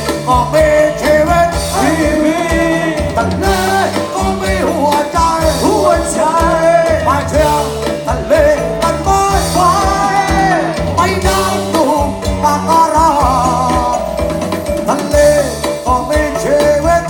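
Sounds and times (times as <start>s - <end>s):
bending lead guitar melody: 0.0s - 17.0s
live rock band playing: 0.0s - 17.0s
steady bass line: 0.0s - 17.0s.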